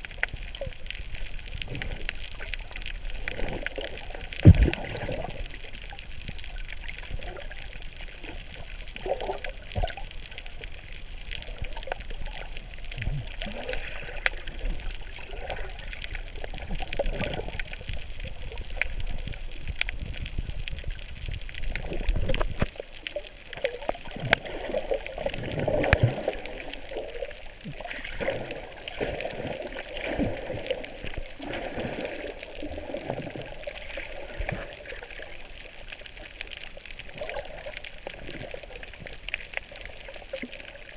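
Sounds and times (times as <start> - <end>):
underwater bubbles and churning: 0.0 - 40.9
underwater crackles and gurgles: 0.0 - 40.9.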